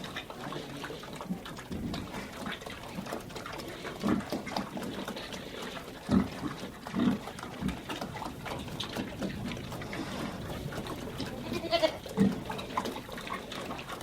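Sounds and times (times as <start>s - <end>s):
barn background noise: 0.0s - 14.0s
pigs grunting: 0.0s - 14.0s.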